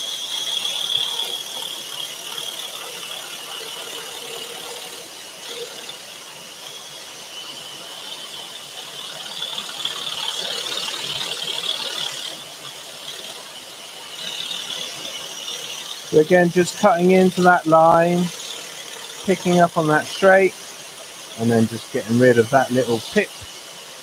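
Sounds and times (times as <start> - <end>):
scroll saw whining: 0.0 - 24.0.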